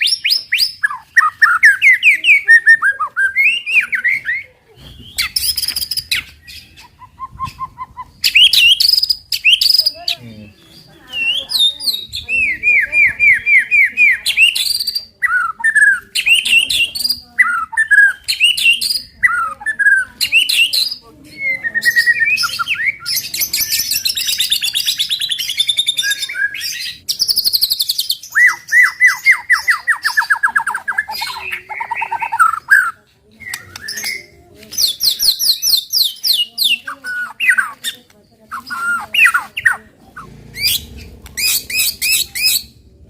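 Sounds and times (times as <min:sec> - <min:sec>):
songbird singing whistles and trills: 0:00.0 - 0:39.8.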